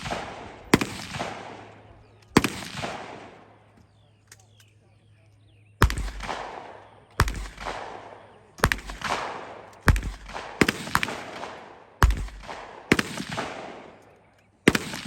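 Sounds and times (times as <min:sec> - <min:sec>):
gunshots with rolling echo: 0:00.0 - 0:03.8, 0:05.8 - 0:15.0.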